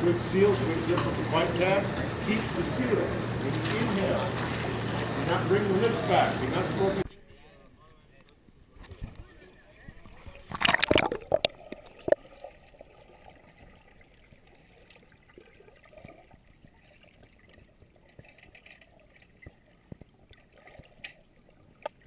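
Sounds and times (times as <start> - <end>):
water gurgling and trickling: 0.0 - 7.1, 8.9 - 22.0.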